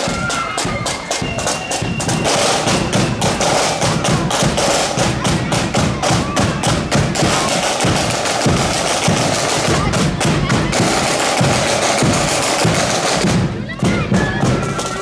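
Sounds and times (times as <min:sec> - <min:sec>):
marching drums beating: 0:00.0 - 0:15.0.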